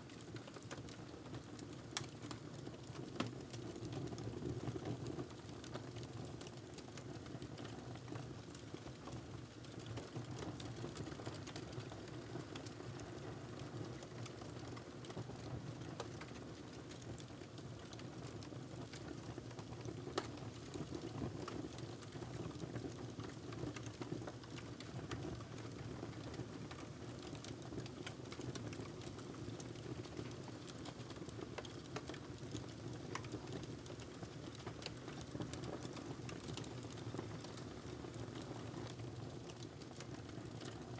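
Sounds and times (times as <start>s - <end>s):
wood fire crackling: 0.1s - 3.9s, 5.3s - 40.9s.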